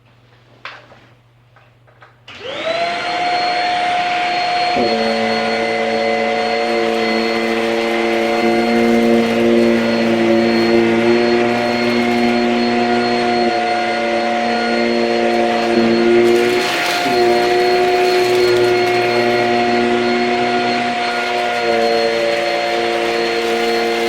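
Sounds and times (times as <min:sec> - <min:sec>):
stick vacuum motor whining: 0:02.3 - 0:24.0.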